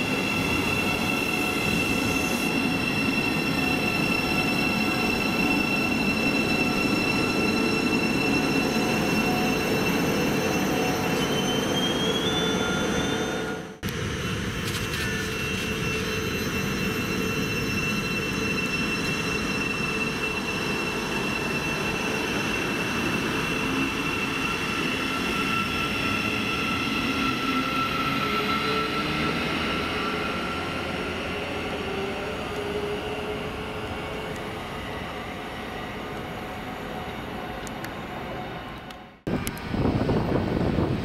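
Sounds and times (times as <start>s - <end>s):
thin high whine: 0.0s - 41.0s.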